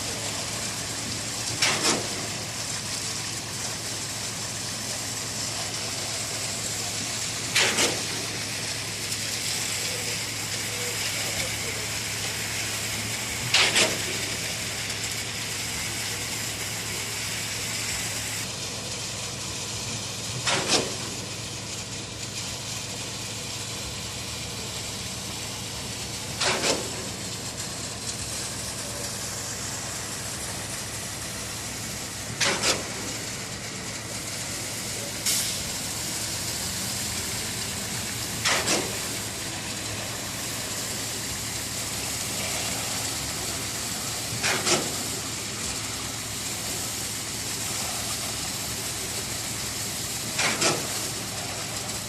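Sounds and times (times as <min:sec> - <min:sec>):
machinery hiss and hum: 0:00.0 - 0:52.0.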